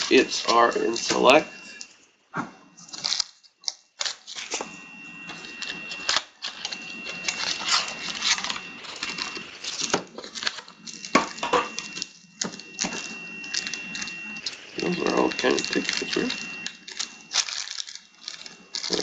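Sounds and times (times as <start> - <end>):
card packs rustling and crinkling: 0.0 - 1.9, 2.8 - 19.0
faint high whine: 0.0 - 19.0.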